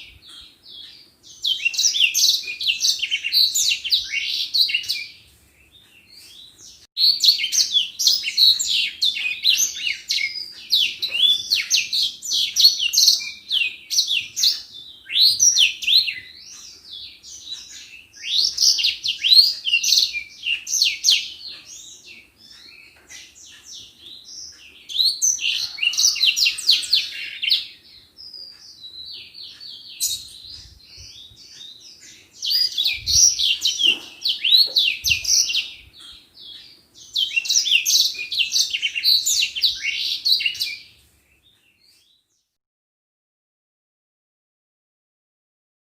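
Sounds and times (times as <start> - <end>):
finch twittering song: 0.0 - 42.6.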